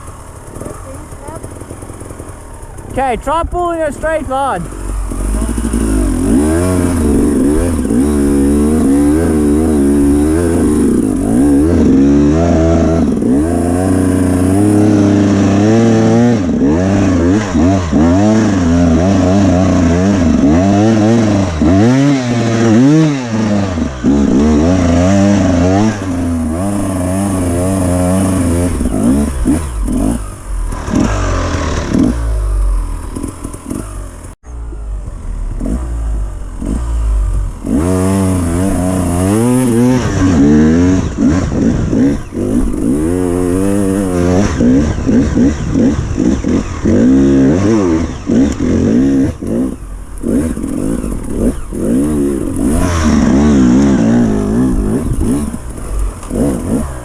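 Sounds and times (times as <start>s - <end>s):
dirt bike engine revving: 0.0s - 57.0s
engine clatter: 0.0s - 57.0s.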